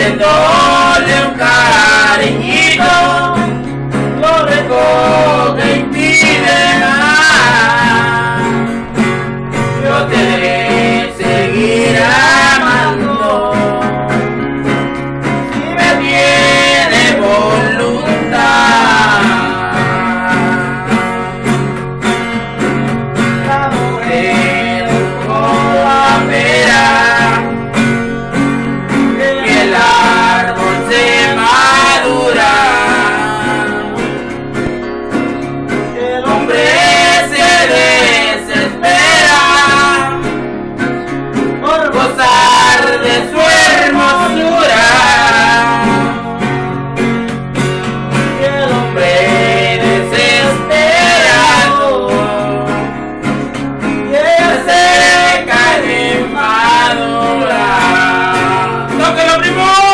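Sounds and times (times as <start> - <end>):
man singing: 0.0 - 14.5, 15.4 - 21.5, 23.3 - 27.8, 28.9 - 34.3, 35.8 - 40.5, 41.4 - 46.8, 48.2 - 59.9
acoustic guitar strumming: 0.0 - 59.9.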